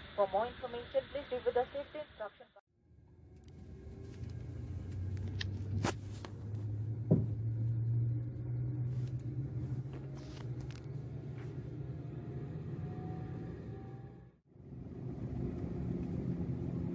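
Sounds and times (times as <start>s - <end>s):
propeller engine drone in cabin: 2.8s - 16.9s.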